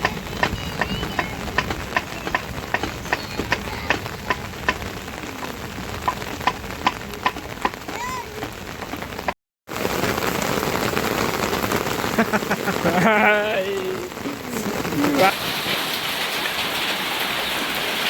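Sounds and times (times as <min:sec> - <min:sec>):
rain pattering: 0:00.0 - 0:18.0
raindrops splashing: 0:00.0 - 0:18.0.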